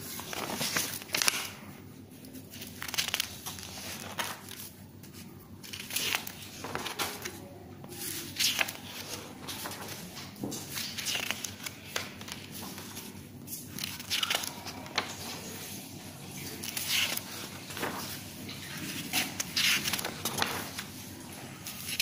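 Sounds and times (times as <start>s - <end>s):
paper sheets rustling: 0.0s - 22.0s.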